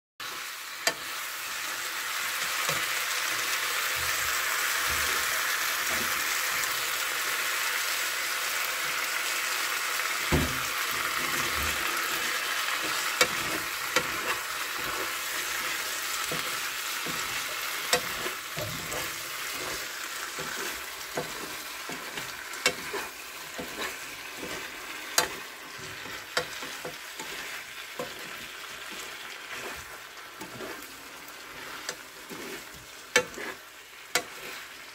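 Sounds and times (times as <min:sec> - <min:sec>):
food sizzling in frying pan: 0:00.2 - 0:34.9
utensil scraping pan: 0:02.2 - 0:06.7, 0:10.3 - 0:34.9.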